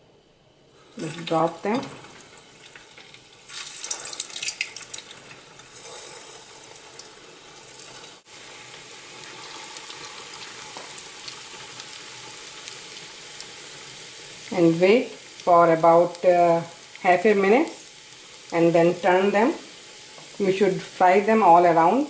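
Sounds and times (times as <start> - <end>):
food deep-frying in oil: 0.8 - 22.0.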